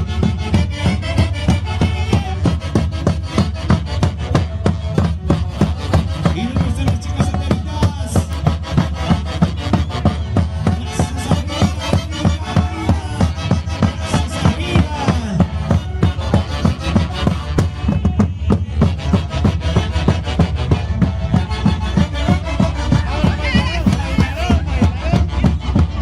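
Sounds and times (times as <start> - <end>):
fast percussive beat: 0.0 - 26.0
live band music: 0.0 - 26.0.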